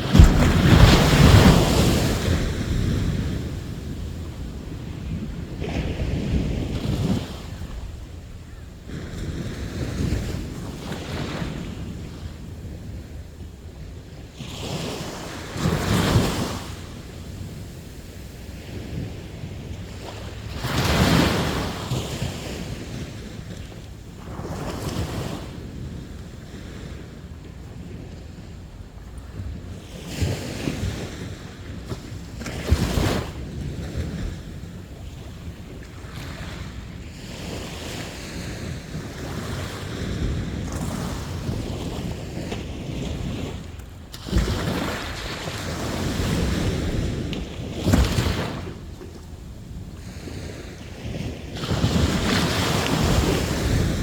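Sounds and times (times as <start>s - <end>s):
sea waves breaking on shore: 0.0s - 54.0s
wind rumble on microphone: 0.0s - 54.0s.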